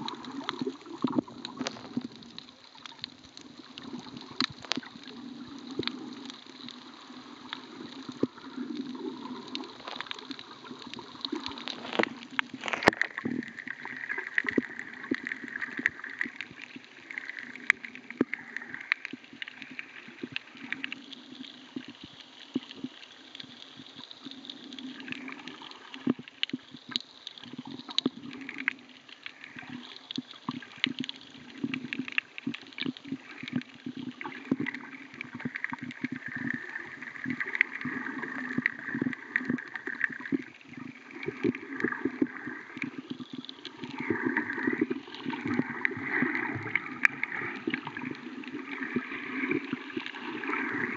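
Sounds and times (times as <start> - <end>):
muffled underwater sloshing: 0.0 - 50.9
underwater clicks and crackles: 0.0 - 50.9.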